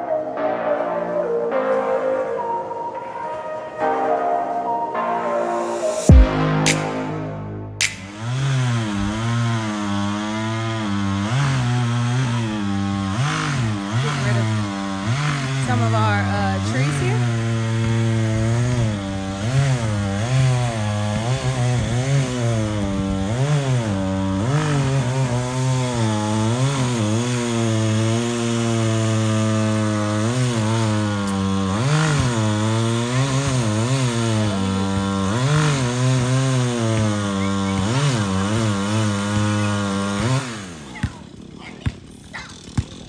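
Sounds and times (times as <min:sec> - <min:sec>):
chainsaw revving: 0:08.1 - 0:43.0.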